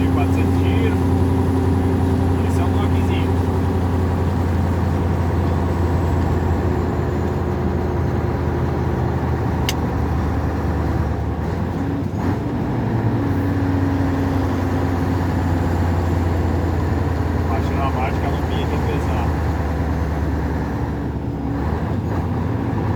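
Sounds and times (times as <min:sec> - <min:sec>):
truck diesel engine droning: 0:00.0 - 0:22.9.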